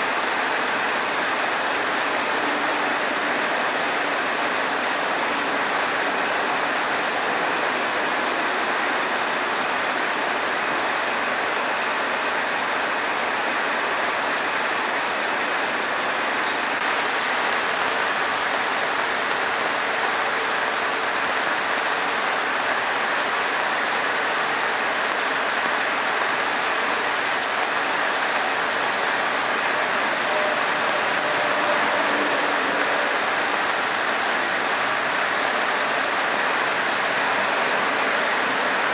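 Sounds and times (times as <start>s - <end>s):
heavy rain on pavement and leaves: 0.0s - 38.9s.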